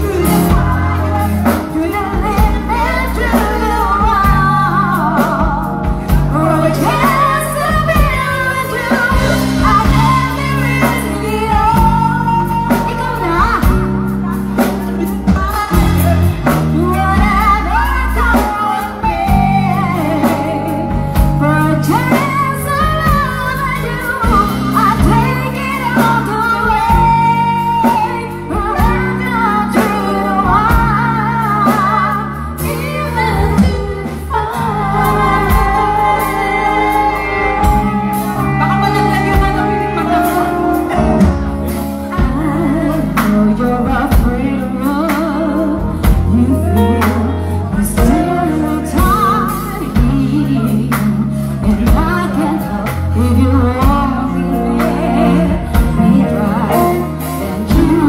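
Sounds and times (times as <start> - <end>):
two vocalists singing a duet: 0.0 - 41.3, 41.9 - 58.0
live band playing a ballad: 0.0 - 58.0.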